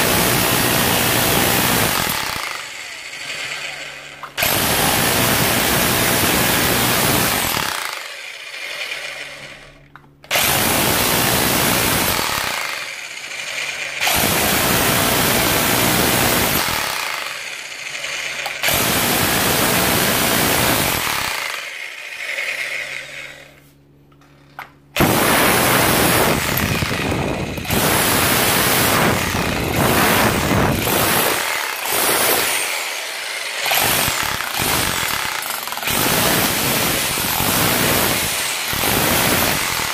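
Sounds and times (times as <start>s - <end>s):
hammer drill chiseling into wall: 0.0s - 23.6s, 24.6s - 39.9s.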